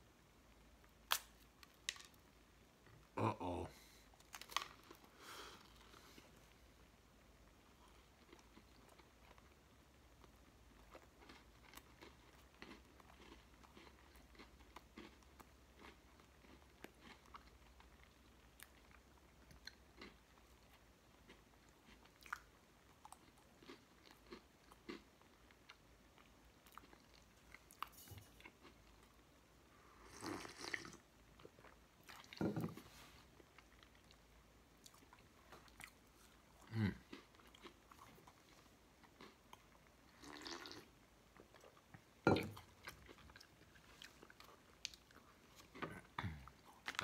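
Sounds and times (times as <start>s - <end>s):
person chewing: 7.7s - 29.2s, 30.0s - 47.0s.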